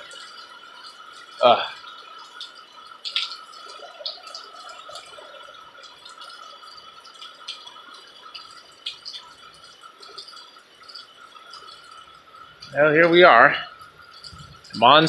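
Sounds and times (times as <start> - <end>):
rain dripping: 0.0 - 15.0.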